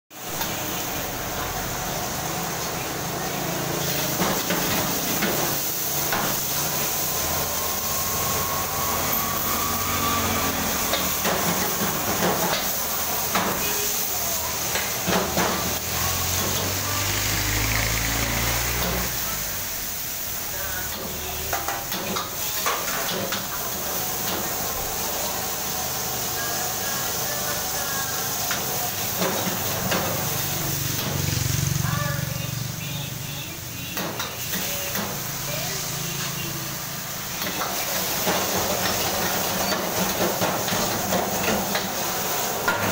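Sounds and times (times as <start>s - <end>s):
burner hiss and sizzling food: 0.1s - 42.9s.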